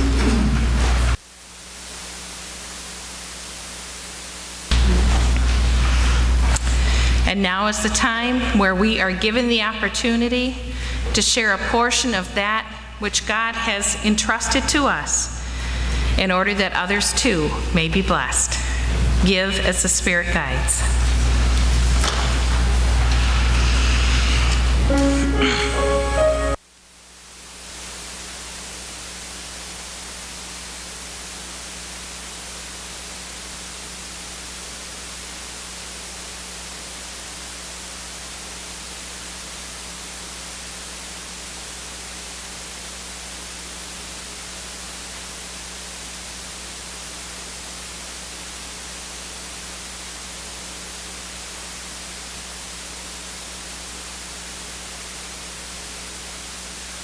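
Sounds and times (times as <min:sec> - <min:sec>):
static hiss: 0:00.0 - 0:09.0, 0:17.2 - 0:57.0
low electrical hum: 0:00.0 - 0:57.0.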